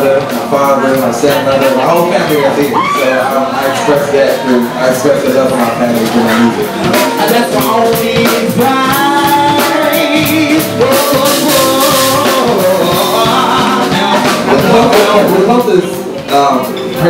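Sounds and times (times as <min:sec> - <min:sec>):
band with drum kit: 0:00.0 - 0:17.0
man singing soul: 0:00.0 - 0:17.0.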